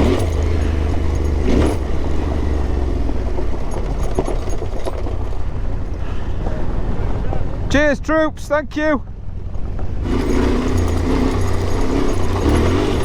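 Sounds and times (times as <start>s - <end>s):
motorcycle engine running: 0.0s - 7.8s, 9.0s - 13.0s.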